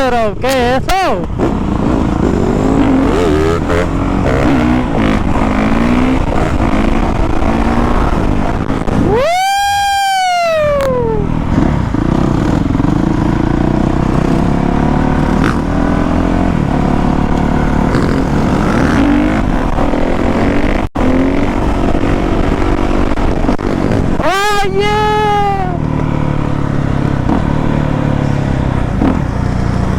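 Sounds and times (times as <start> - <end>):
dirt bike revving: 0.0 - 29.9
dirt bike engine running: 0.5 - 29.9.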